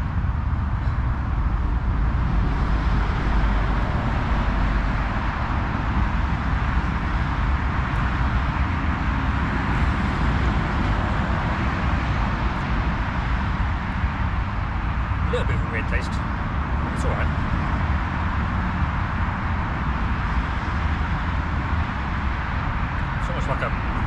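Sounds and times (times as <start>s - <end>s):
car engines: 0.0s - 24.0s.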